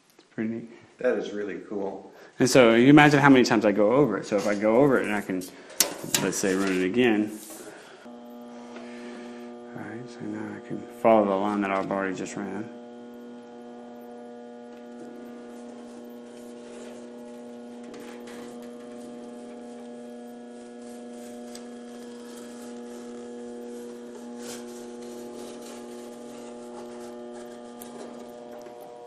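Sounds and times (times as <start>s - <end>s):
bead roller motor humming: 2.6s - 29.0s.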